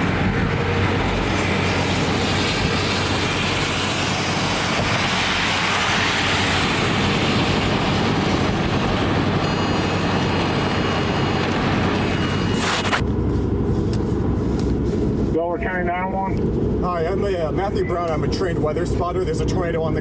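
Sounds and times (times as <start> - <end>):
road and wind noise in car: 0.0 - 20.0.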